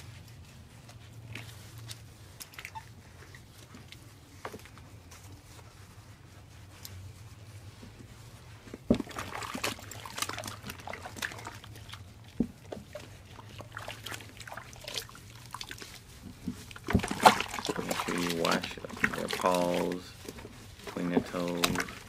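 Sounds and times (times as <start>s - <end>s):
low steady hum: 0.0s - 22.0s
water sloshing and splashing: 0.0s - 22.0s.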